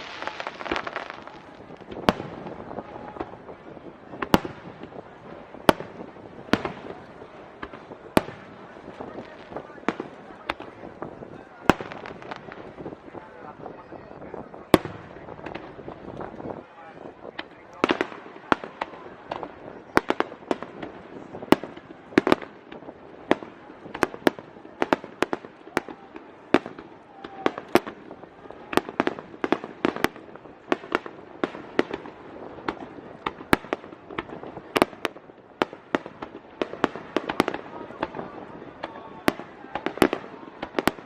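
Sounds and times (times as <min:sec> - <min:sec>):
fireworks bangs: 0:00.0 - 0:41.0
fireworks crackling: 0:00.0 - 0:41.0.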